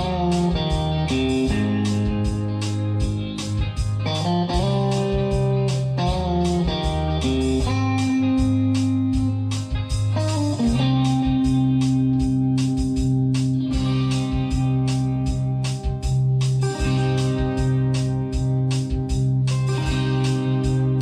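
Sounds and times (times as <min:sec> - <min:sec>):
blues electric guitar music: 0:00.0 - 0:21.0.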